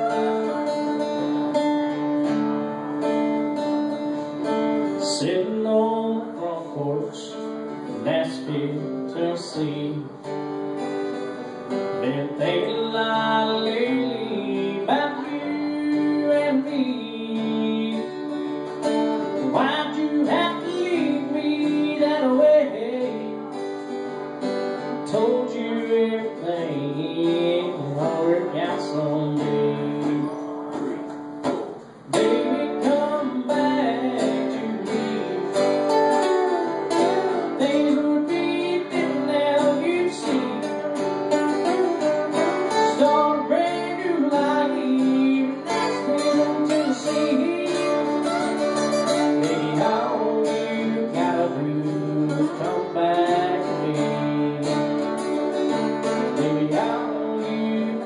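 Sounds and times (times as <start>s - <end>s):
man singing into a microphone: 0.0s - 1.2s, 4.6s - 10.3s, 11.7s - 23.7s, 24.8s - 31.2s, 32.0s - 58.0s
acoustic guitars strumming: 0.0s - 58.0s.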